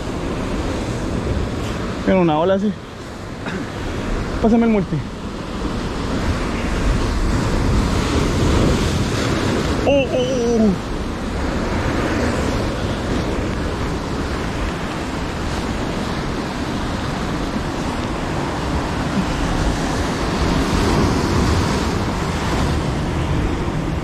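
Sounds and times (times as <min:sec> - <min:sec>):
surf breaking over rocks: 0:00.0 - 0:24.0.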